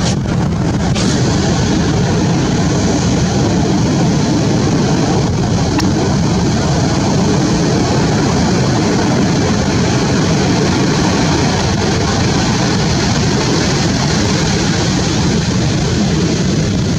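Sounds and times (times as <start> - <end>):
ocean surf breaking on beach: 0.0 - 16.9.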